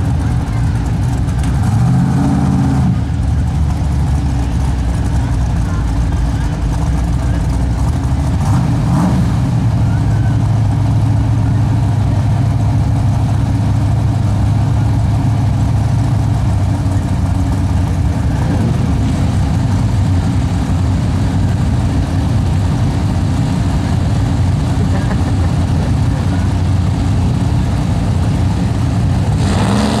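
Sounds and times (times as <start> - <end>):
car engines idling: 0.0 - 30.0.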